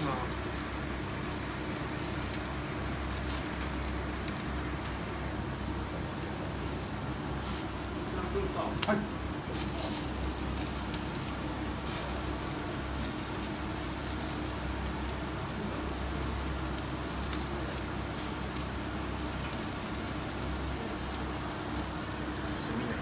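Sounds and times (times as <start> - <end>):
charcoal crackling: 0.0 - 23.0
skewers sizzling: 0.0 - 23.0.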